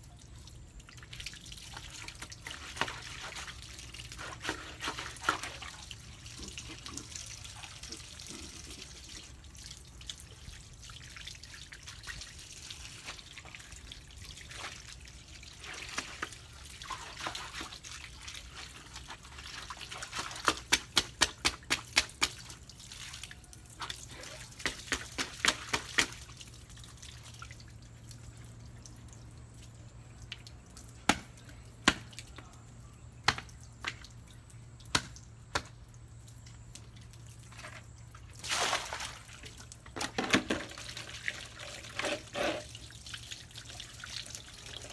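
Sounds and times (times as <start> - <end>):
hose water splashing on tiles: 0.1 - 32.6, 33.3 - 44.9.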